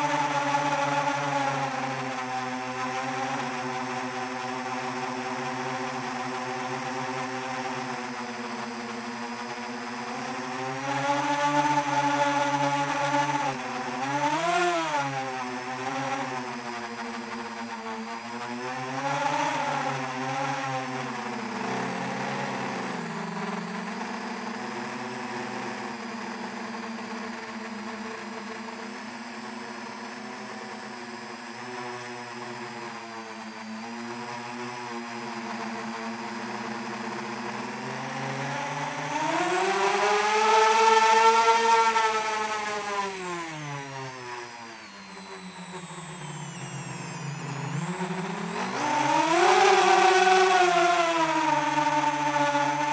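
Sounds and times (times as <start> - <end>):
drone motors whining: 0.0 - 52.9.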